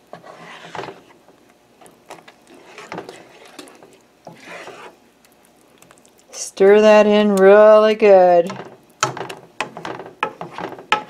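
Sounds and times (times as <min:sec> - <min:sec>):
spoon stirring in a saucepan: 0:00.0 - 0:11.0.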